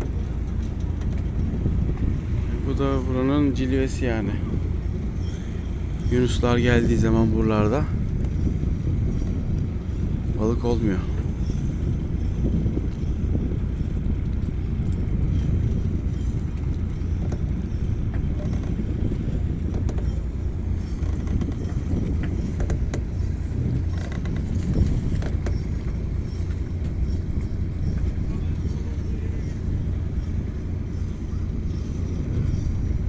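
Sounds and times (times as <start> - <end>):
boat engine running: 0.0 - 33.0
wind on microphone: 0.0 - 33.0.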